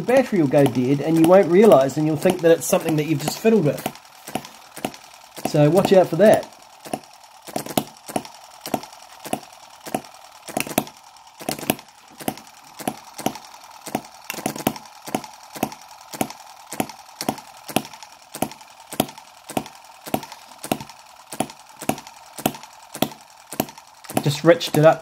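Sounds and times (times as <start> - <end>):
model engine popping: 0.0 - 25.0.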